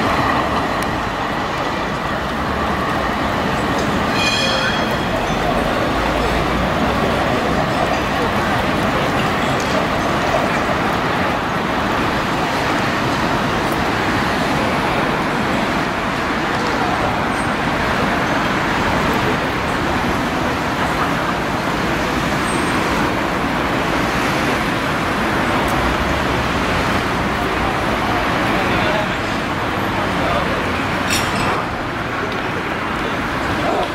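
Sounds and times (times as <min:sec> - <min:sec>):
city street traffic hum: 0:00.0 - 0:33.9.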